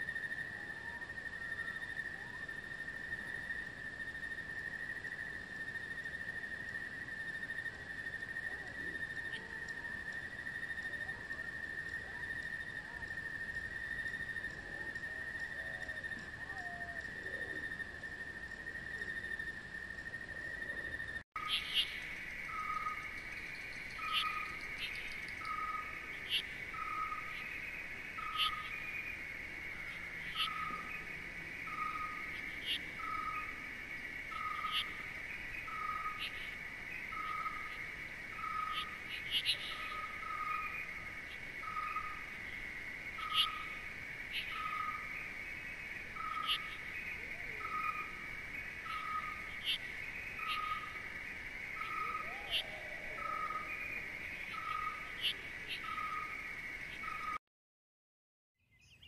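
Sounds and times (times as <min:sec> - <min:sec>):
insect trill: 0:00.0 - 0:57.4.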